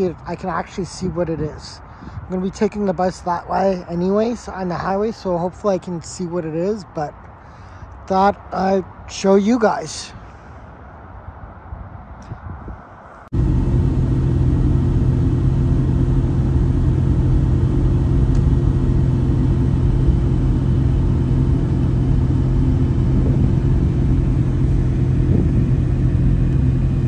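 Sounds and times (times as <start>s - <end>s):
bus engine drone: 0.0s - 27.0s
constant low hum: 0.0s - 27.0s
road noise: 0.0s - 27.0s.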